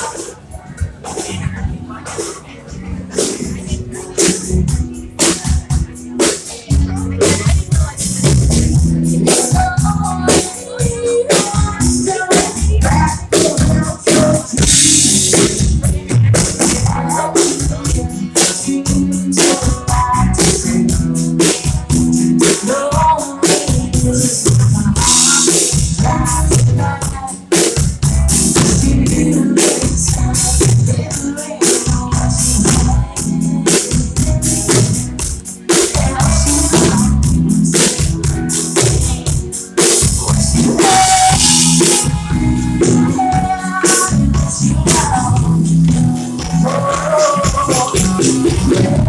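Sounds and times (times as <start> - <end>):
bass guitar: 0.0 - 49.0
drum kit beat: 0.0 - 49.0
electric guitar: 0.0 - 49.0
woman singing: 3.2 - 49.0.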